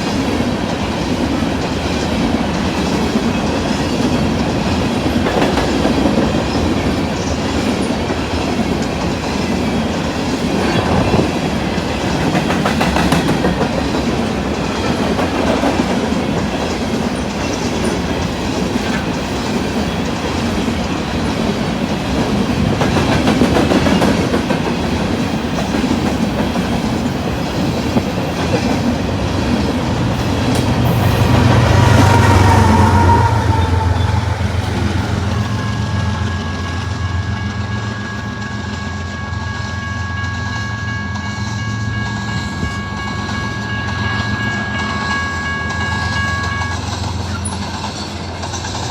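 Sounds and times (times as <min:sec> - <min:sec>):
train wheels clacking over rail joints: 0:00.0 - 0:37.5, 0:45.7 - 0:48.9
deep train rumble: 0:00.0 - 0:48.9.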